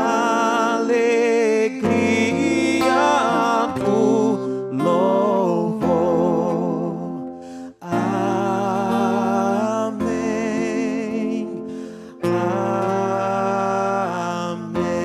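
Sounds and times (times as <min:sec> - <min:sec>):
acoustic guitar: 0:00.0 - 0:15.0
person singing a hymn: 0:00.0 - 0:15.0.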